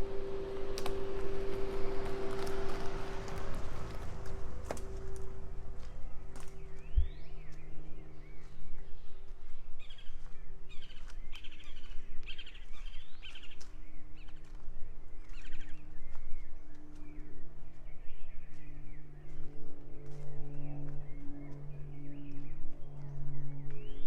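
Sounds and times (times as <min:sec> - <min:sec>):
low steady hum: 0:00.0 - 0:24.0
songbirds chirping and trilling: 0:00.0 - 0:24.0.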